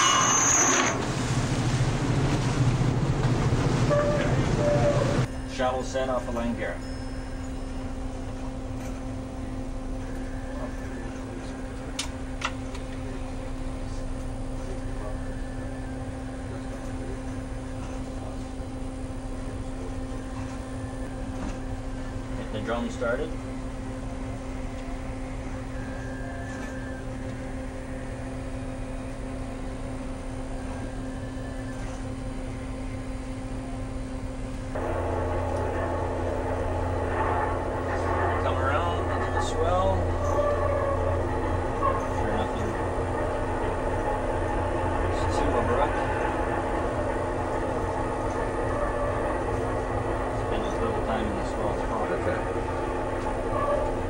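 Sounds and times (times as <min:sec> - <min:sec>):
deck machinery: 0:00.0 - 0:54.0
low hum: 0:00.0 - 0:54.0
ship engines droning: 0:00.0 - 0:54.0.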